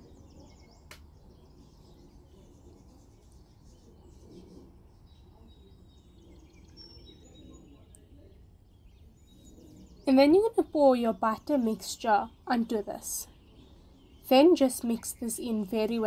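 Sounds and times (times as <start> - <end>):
faint high bird chirps: 0.0 - 16.0.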